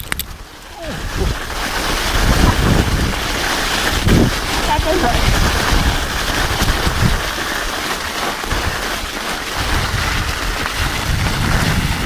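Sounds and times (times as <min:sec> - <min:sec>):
bike tyres crackling on ice: 0:00.0 - 0:12.0
wind rumbling on microphone: 0:00.0 - 0:12.0.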